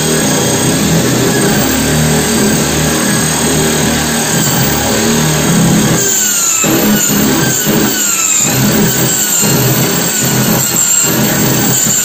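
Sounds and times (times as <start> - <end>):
electric drill boring into wood: 0.0 - 12.0.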